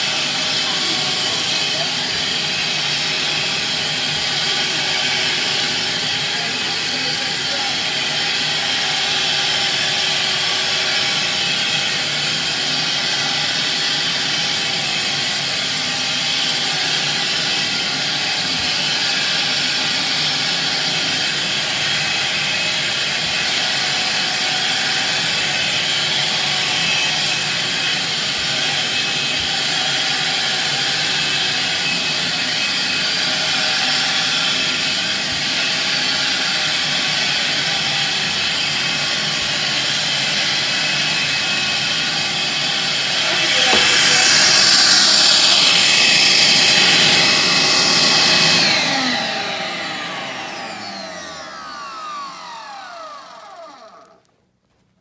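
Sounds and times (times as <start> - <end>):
vacuum nozzle on carpet: 0.0 - 54.3
shop vacuum whining: 0.0 - 54.9.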